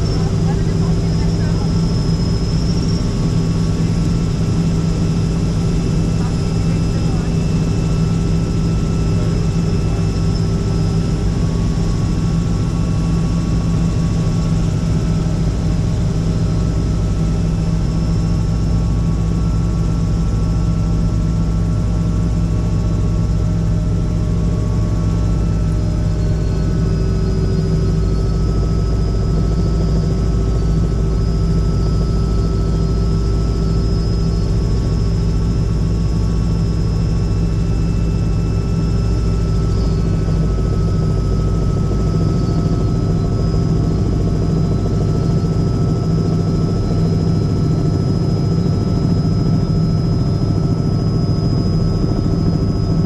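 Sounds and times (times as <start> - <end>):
helicopter engine and rotor drone: 0.0 - 53.0.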